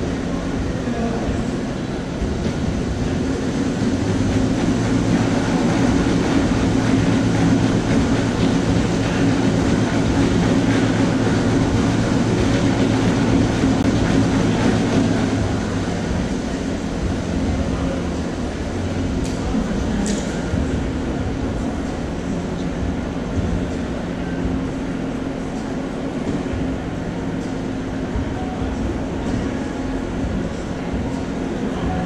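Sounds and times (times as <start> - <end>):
treadmill belt clatter: 0.0 - 32.0
treadmill rumble: 0.0 - 32.0.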